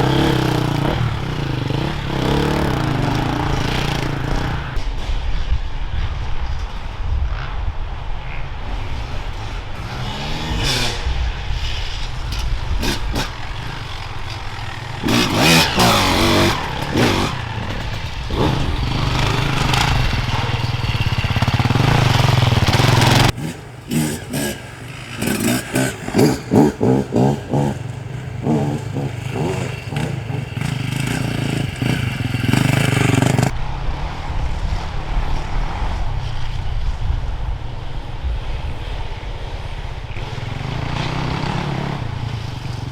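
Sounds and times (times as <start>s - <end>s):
motorcycle engines revving: 0.0s - 5.5s, 6.1s - 42.9s.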